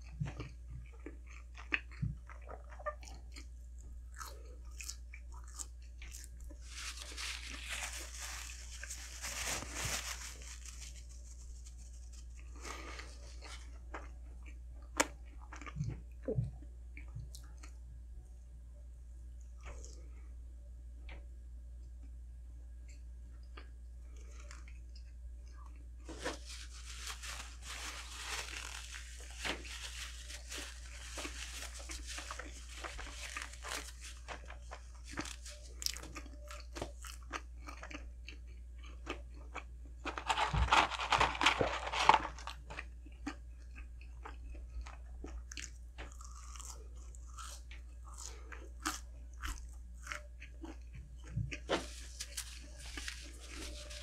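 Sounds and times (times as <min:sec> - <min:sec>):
crunchy chewing: 0:00.0 - 0:17.8, 0:23.5 - 0:54.0.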